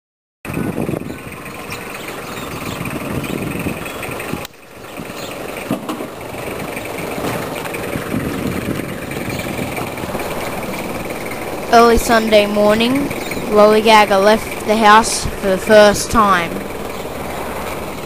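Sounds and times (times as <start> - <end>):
vehicle engine and road noise: 0.5 - 18.0.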